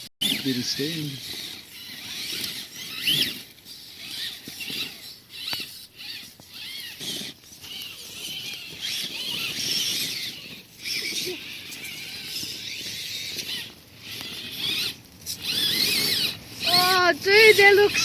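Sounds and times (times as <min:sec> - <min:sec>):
toy truck electric motors whining: 0:00.2 - 0:18.0.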